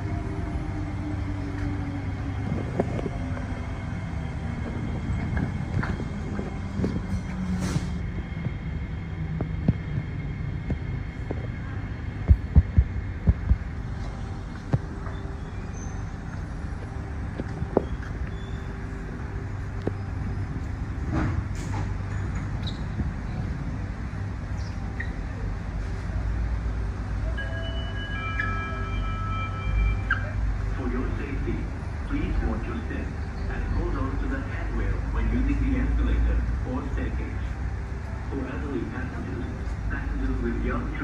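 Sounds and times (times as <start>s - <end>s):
metro train humming: 0.0s - 41.0s.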